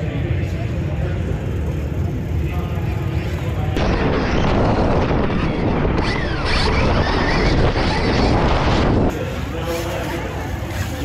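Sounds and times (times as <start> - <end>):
wind and riding noise: 0.0 - 11.0.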